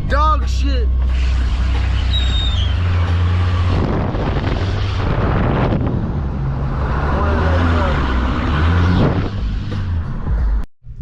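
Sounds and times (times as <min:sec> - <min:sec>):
road and wind noise: 0:00.0 - 0:11.0
vehicle engine drone: 0:00.0 - 0:11.0.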